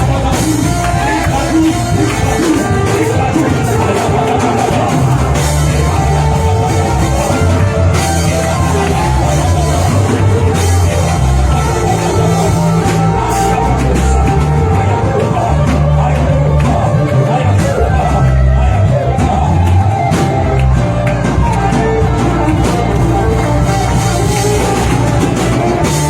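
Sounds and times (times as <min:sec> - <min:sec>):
bass line: 0:00.0 - 0:26.0
drums: 0:00.0 - 0:26.0
live worship band music: 0:00.0 - 0:26.0
voices singing: 0:00.0 - 0:26.0.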